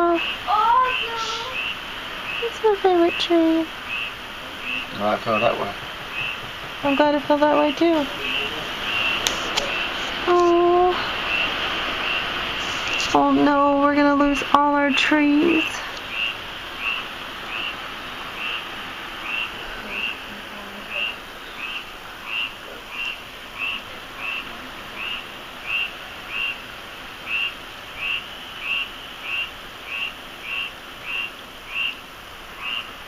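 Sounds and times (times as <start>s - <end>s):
steady background hiss: 0.0s - 33.0s.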